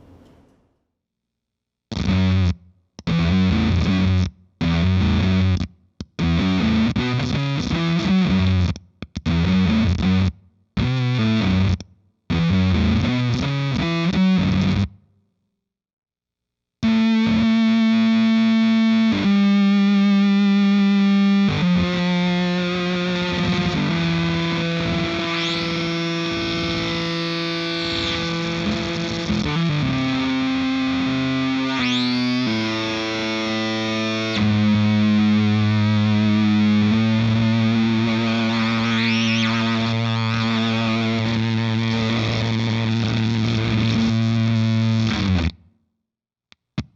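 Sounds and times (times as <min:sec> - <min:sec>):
fuzzed electric guitar: 0:01.9 - 0:15.0, 0:16.8 - 0:45.7.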